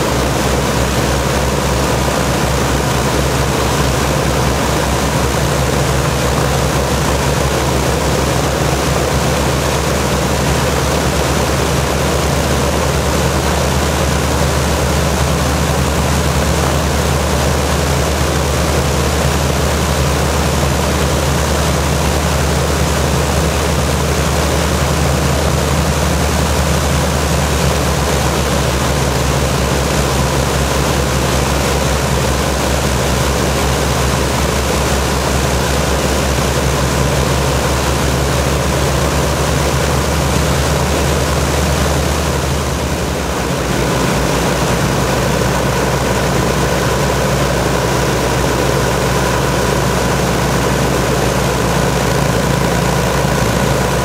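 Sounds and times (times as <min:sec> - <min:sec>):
propeller aircraft engines droning: 0:00.0 - 0:54.0.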